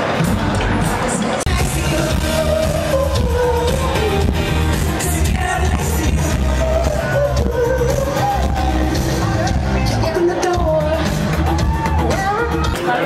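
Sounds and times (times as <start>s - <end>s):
live pop band playing: 0.0s - 13.0s
person singing: 0.2s - 13.0s.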